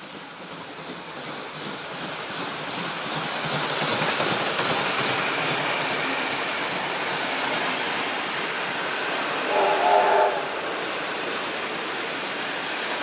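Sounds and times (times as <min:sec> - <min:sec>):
steam train passing at speed: 0:00.0 - 0:13.0.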